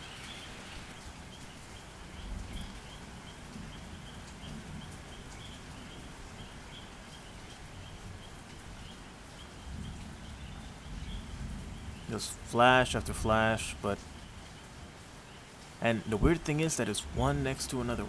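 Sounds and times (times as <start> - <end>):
steady night outdoor hiss: 0.0 - 18.0.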